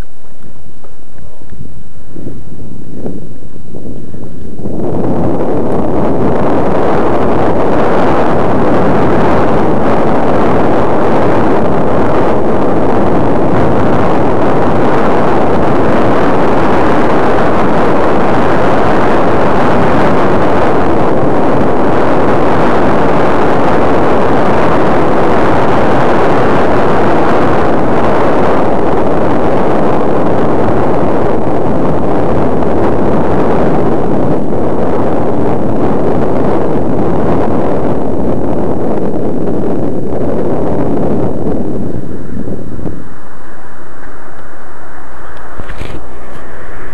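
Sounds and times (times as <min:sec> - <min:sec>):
wind rushing on microphone: 0:00.0 - 0:46.9.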